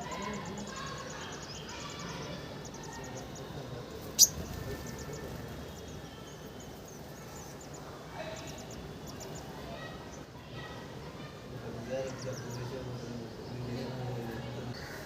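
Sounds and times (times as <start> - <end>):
birds chirping high: 0.0 - 15.0.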